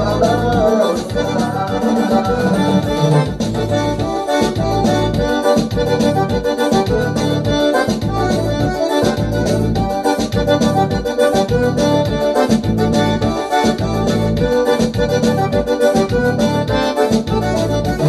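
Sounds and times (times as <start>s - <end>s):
bass line: 0.0s - 18.0s
electronic keyboard melody: 0.0s - 18.0s
steady beat: 0.0s - 18.0s.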